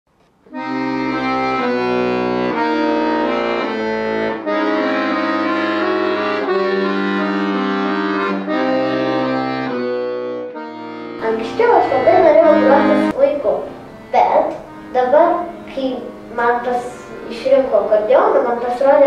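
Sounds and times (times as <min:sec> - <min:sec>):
accordion playing slow tune: 0:00.4 - 0:19.0.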